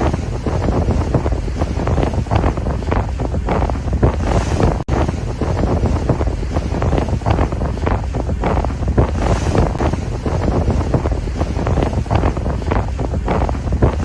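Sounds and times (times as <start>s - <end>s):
ocean waves crashing: 0.0s - 14.0s
wind buffeting microphone: 0.0s - 14.0s.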